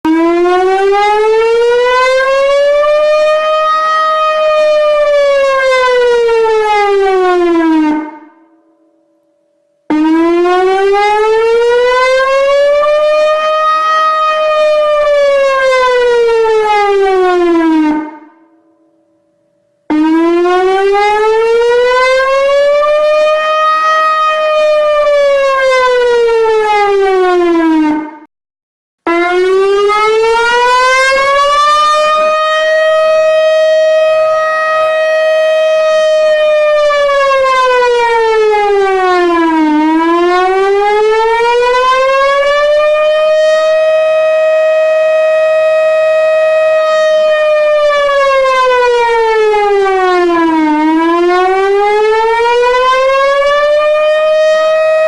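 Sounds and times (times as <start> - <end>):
warning siren wailing: 0.0 - 28.3, 29.0 - 55.0.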